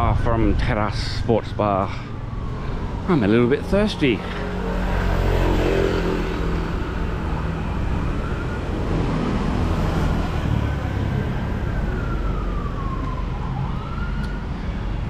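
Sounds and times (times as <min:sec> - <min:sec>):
street traffic rumble: 0:00.0 - 0:15.0
faint siren wailing: 0:01.0 - 0:15.0.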